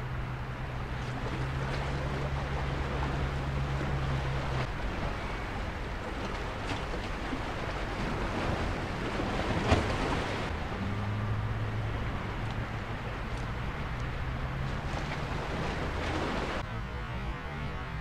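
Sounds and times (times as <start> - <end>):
low steady hum: 0.0 - 18.0
sea lapping against rocks: 0.9 - 10.8, 12.0 - 16.6.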